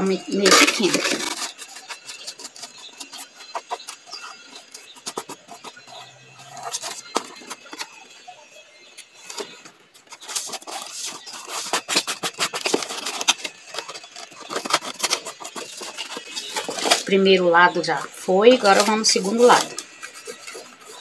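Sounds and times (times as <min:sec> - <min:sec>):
brush scraping on cardboard: 0:00.3 - 0:07.9, 0:08.7 - 0:17.2, 0:18.5 - 0:21.0.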